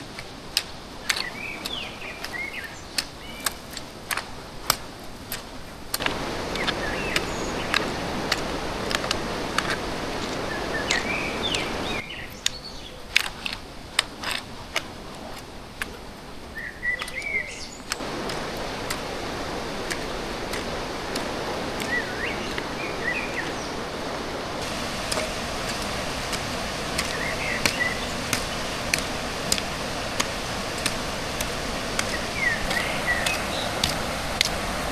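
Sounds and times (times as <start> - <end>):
stream rushing: 0.0 - 12.0, 14.2 - 34.9
small birds chirping: 0.6 - 4.2, 5.2 - 13.8, 15.7 - 34.9.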